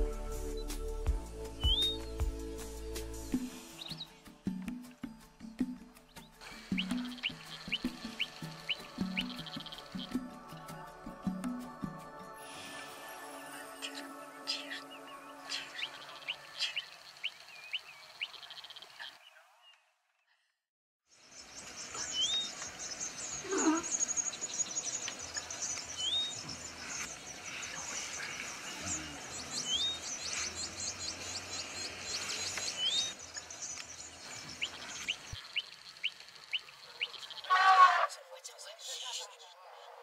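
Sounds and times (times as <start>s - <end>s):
birds chirping: 1.5s - 4.2s, 5.5s - 10.2s, 13.8s - 20.3s, 21.2s - 40.0s.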